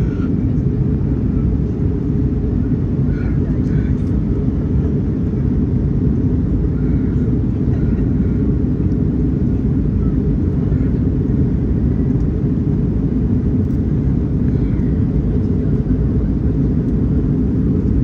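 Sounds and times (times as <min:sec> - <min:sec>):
jet airliner rumble: 0:00.0 - 0:18.0.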